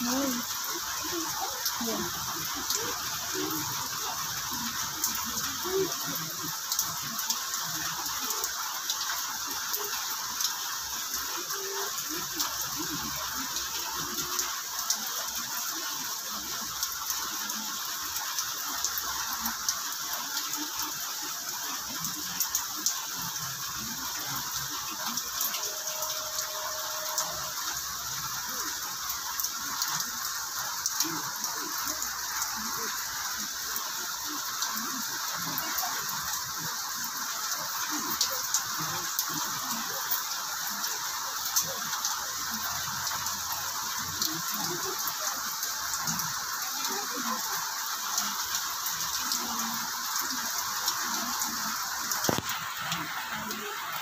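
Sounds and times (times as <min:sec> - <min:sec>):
raindrops clicking close by: 0:00.0 - 0:54.0
steady rain falling: 0:00.0 - 0:54.0.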